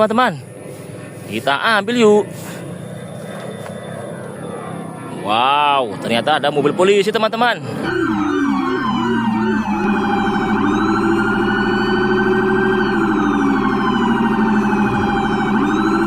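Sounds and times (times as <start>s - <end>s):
steady low hum: 0.0s - 16.0s
police siren wailing: 1.4s - 16.0s.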